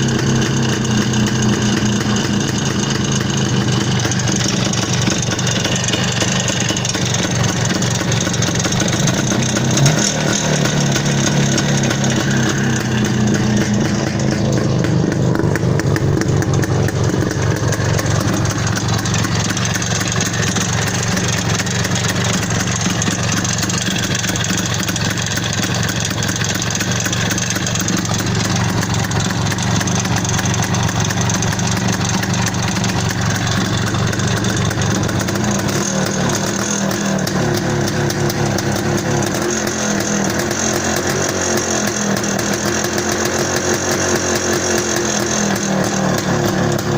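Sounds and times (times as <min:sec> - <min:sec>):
engine knocking: 0:00.0 - 0:46.9
motorcycle engine running: 0:00.0 - 0:46.9.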